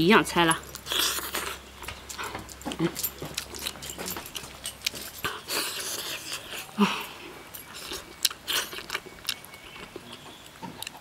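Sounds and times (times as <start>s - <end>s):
chewing and smacking: 0.6s - 11.0s.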